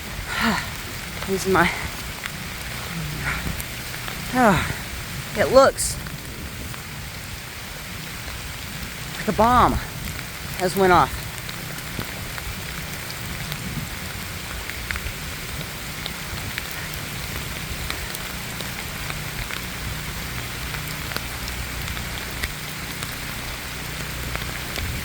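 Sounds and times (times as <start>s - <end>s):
heavy rain: 0.0s - 25.0s
wind buffeting microphone: 0.0s - 25.0s.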